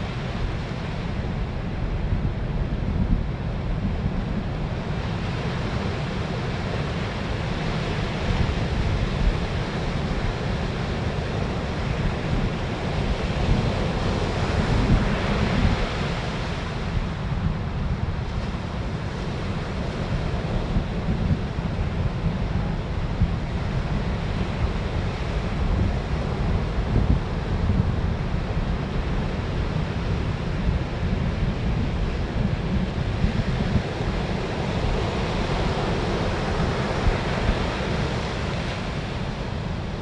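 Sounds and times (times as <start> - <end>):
wind rumbling on microphone: 0.0 - 40.0
ocean surf breaking: 5.0 - 40.0.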